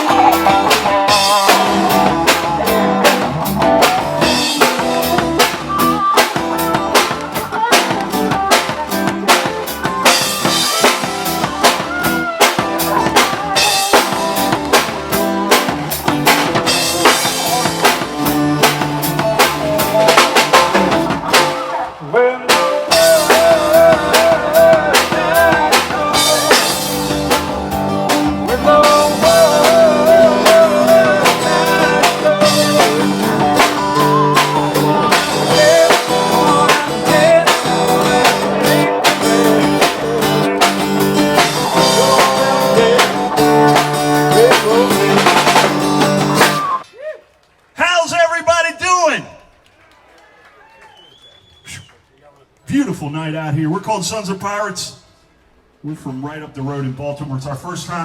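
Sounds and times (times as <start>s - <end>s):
drum kit with rimshots: 0.0s - 46.9s
live band playing instrumental: 0.0s - 46.9s.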